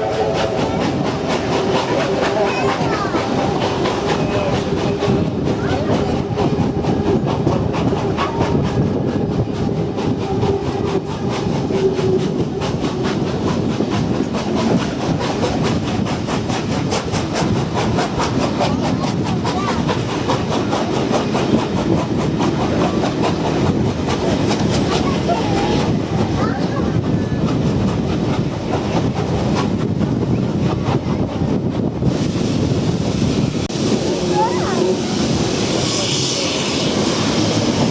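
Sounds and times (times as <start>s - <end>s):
train running rumble: 0.0s - 37.9s.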